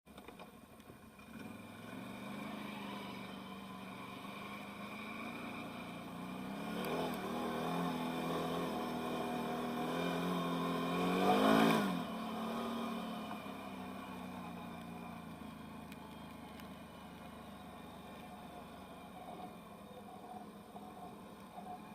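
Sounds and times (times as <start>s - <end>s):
atv engine revving: 1.1s - 21.9s.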